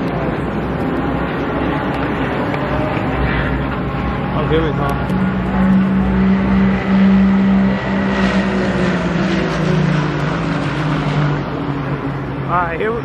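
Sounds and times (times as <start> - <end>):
race car engine passing: 0.2 - 12.5.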